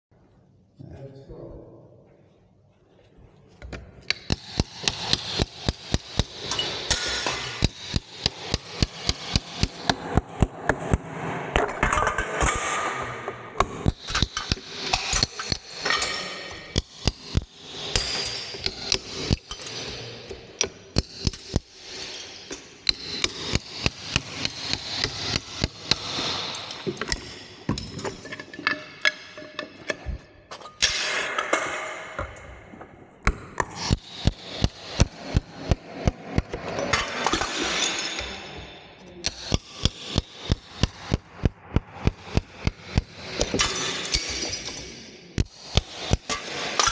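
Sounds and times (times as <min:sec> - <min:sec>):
hammer striking metal chisel: 0:04.1 - 0:10.5, 0:13.6 - 0:32.6, 0:33.2 - 0:46.9.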